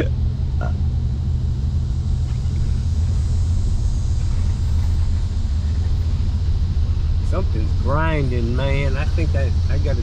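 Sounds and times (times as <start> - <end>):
truck drivetrain drone: 0.0 - 10.0.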